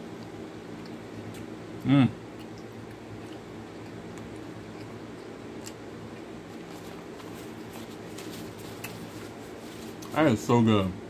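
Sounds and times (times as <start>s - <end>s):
steady low hum: 0.0s - 11.0s
person chewing: 0.1s - 10.1s.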